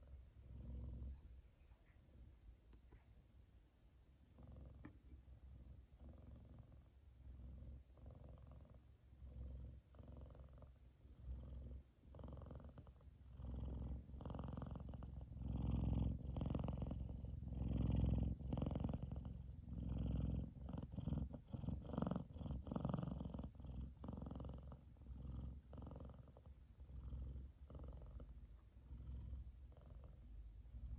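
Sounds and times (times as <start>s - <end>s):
cat purring loudly: 0.0s - 1.4s, 4.3s - 30.9s.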